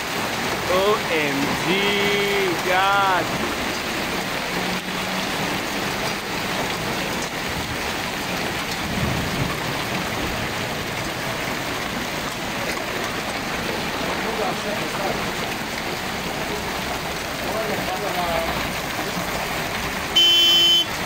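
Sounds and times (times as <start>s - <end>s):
heavy rain and hail: 0.0s - 21.0s.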